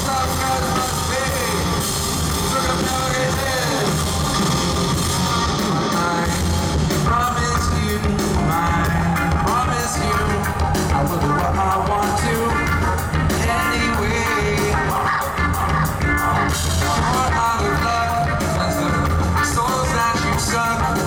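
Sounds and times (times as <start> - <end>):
male singer singing: 0.0 - 1.8, 2.4 - 4.4, 5.5 - 15.3, 16.5 - 21.0
rock band playing live: 0.0 - 21.0.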